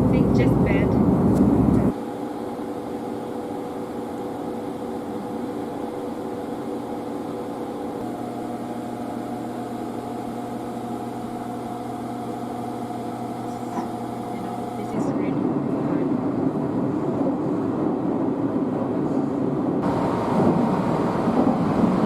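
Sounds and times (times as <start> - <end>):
low rumble of train: 0.0 - 22.0
train carriage mechanical hum: 0.0 - 22.0.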